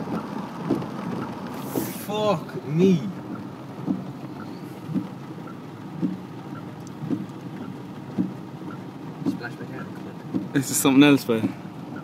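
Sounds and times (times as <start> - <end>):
heavy rain and flood water rushing: 0.0 - 12.0.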